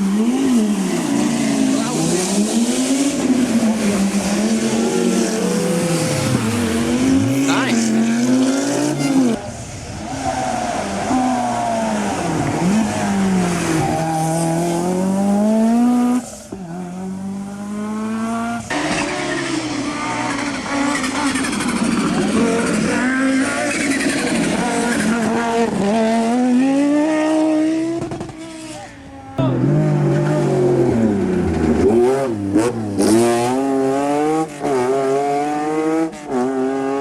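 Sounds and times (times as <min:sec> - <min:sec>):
rally car engines at full throttle: 0:00.0 - 0:37.0.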